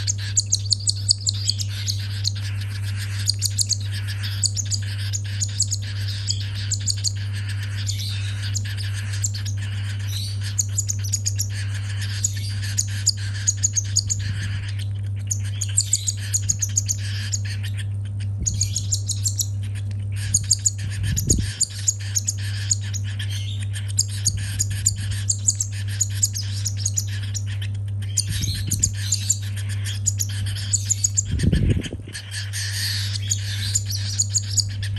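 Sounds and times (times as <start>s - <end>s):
cockatiel chick begging chirps: 0.0s - 34.9s.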